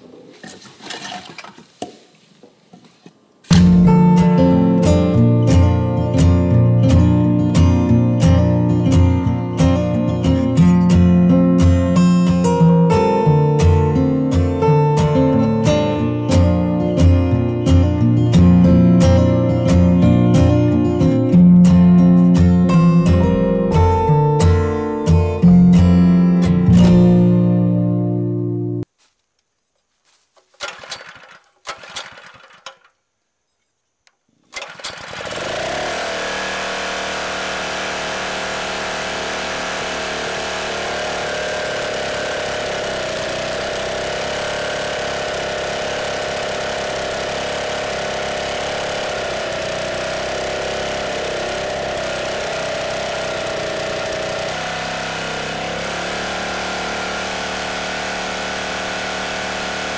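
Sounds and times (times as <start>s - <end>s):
small gas engine running: 3.5s - 27.7s, 30.6s - 32.9s, 34.5s - 59.9s.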